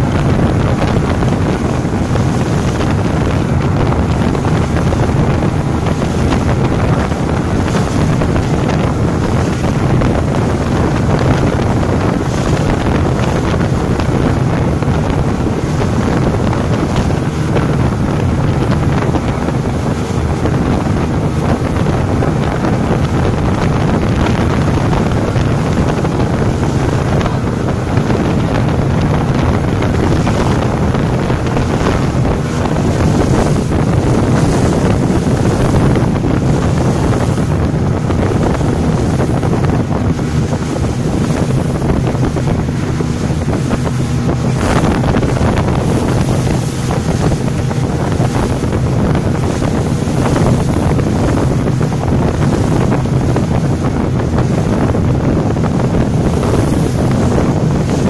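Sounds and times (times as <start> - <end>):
motorboat engine drone: 0.0 - 58.0
rush of wake and spray: 0.0 - 58.0
wind buffeting microphone: 0.0 - 58.0.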